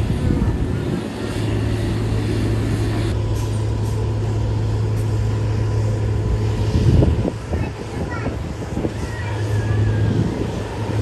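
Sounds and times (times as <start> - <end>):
broad noisy background: 0.0 - 11.0
low engine drone: 0.0 - 11.0.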